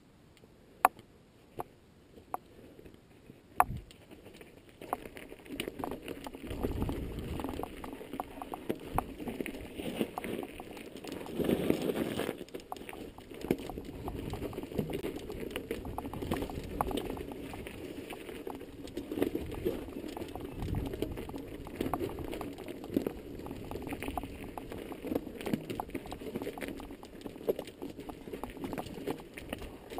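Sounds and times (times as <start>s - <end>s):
stones clicking and knocking: 3.6s - 29.9s
bike rattling: 4.2s - 29.9s
bike tyres crunching over gravel: 4.6s - 29.9s.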